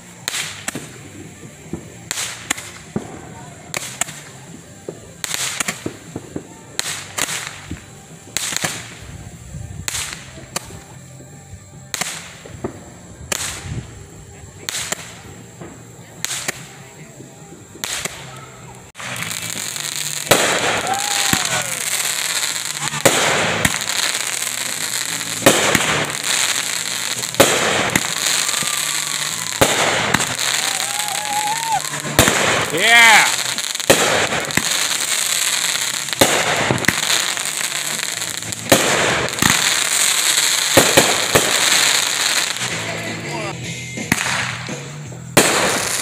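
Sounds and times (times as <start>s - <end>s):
fireworks bangs: 0.0s - 46.0s
fireworks hiss: 0.0s - 46.0s
fireworks whistling: 0.0s - 46.0s.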